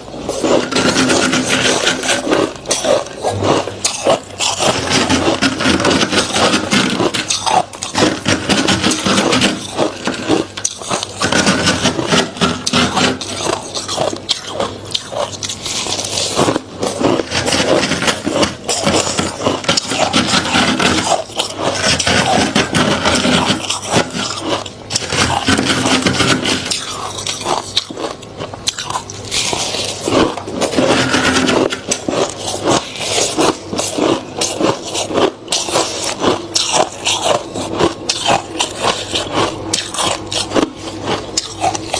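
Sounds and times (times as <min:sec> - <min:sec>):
frost being chewed: 0:00.0 - 0:41.9.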